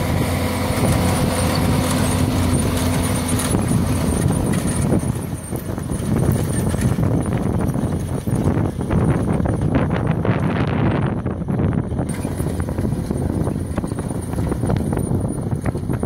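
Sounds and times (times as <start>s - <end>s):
seed drill rumble and clatter: 0.0s - 16.0s
tractor engine hum: 0.0s - 16.0s.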